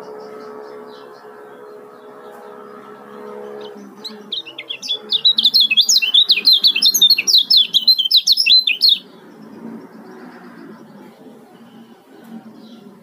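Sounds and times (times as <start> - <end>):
bird singing high chirping chatter: 0.0 - 13.0.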